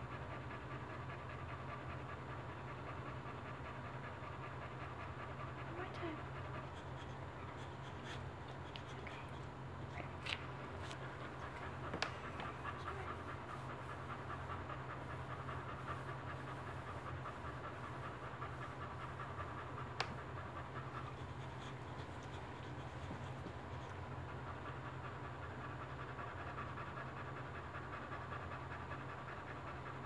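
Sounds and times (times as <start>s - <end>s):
dog panting: 0.0s - 30.0s.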